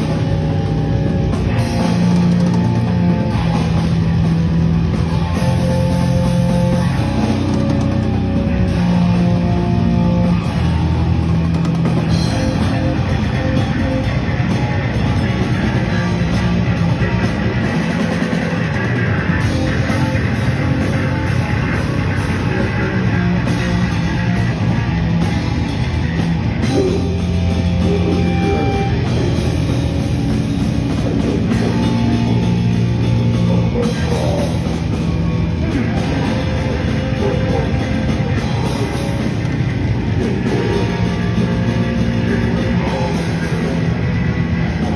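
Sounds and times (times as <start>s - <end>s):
heavy metal band playing: 0.0s - 44.9s.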